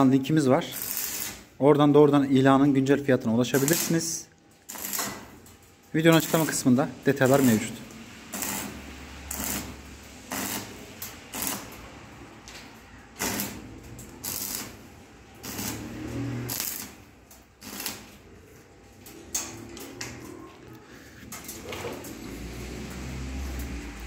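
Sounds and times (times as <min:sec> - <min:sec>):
arc welder crackling: 0:00.0 - 0:24.0.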